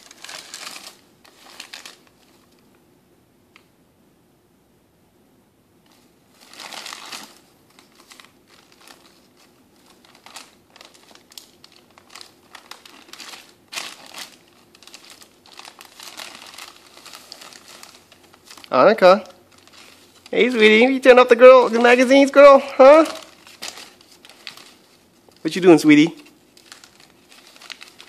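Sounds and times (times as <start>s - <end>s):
paper pages crinkling and tearing: 0.0s - 2.6s, 5.9s - 28.0s.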